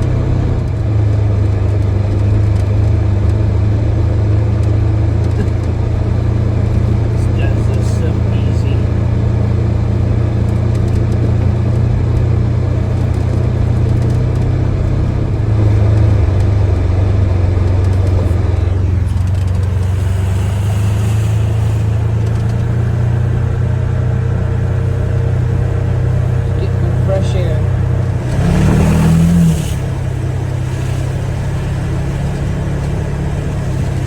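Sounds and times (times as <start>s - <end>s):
tyre and driveline noise: 0.0s - 34.0s
vehicle engine drone: 0.0s - 34.0s.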